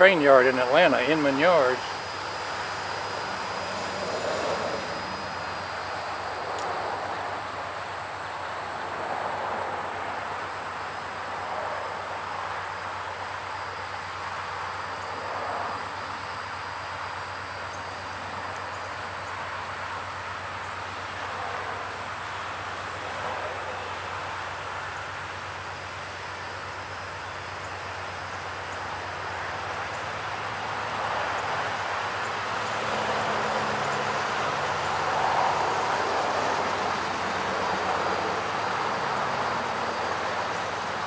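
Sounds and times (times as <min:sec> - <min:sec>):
diesel locomotives running: 0:00.0 - 0:41.0.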